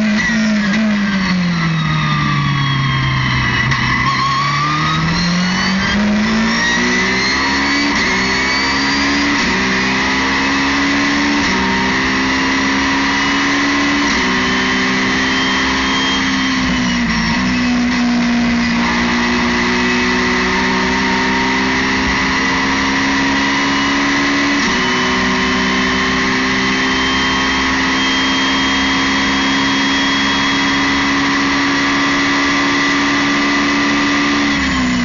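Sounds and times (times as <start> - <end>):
race car engine accelerating: 0.0 - 35.0.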